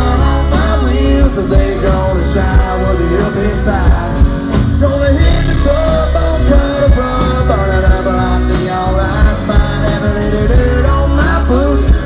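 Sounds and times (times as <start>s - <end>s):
bass guitar: 0.0s - 12.0s
electric guitar: 0.0s - 12.0s
person singing: 0.0s - 12.0s
steady drum beat: 0.0s - 12.0s.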